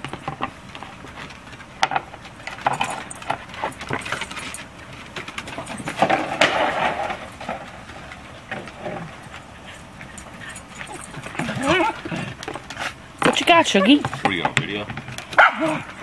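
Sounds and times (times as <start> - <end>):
dog claws clicking on wooden deck: 0.0 - 15.8.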